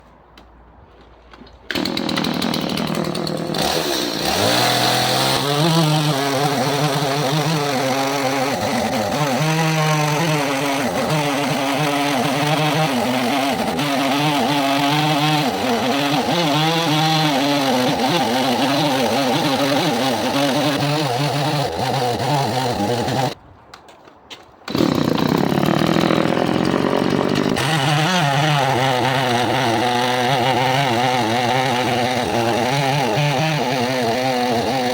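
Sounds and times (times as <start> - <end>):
chainsaw cutting wood: 1.7 - 23.4, 24.7 - 34.9.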